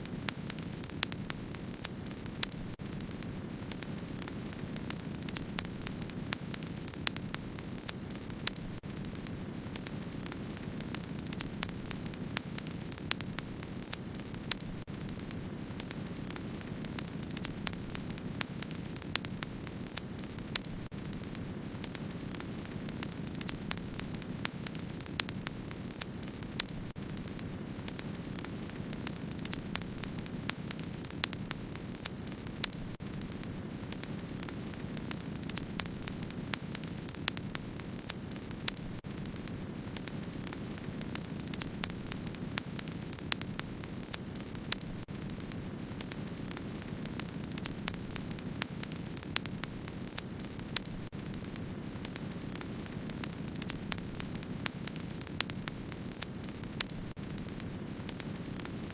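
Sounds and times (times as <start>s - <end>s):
burning wood crackling and popping: 0.0s - 58.9s
wood fire burning: 0.0s - 58.9s.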